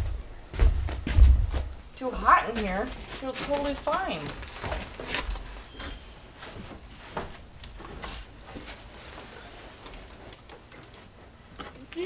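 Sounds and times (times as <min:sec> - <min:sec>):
insulation rustling: 0:00.0 - 0:12.0.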